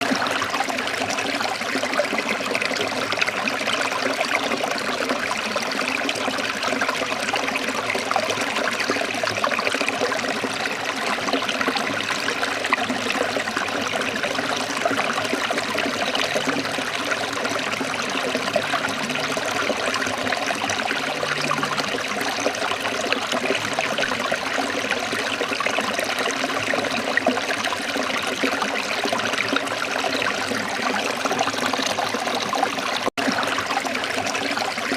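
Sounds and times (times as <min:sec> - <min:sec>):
running water flowing: 0:00.0 - 0:34.9.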